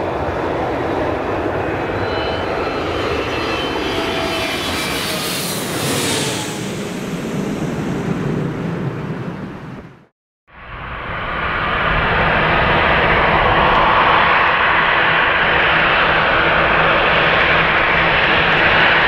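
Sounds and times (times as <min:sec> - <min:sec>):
jet airliner flying overhead: 0:00.0 - 0:19.0.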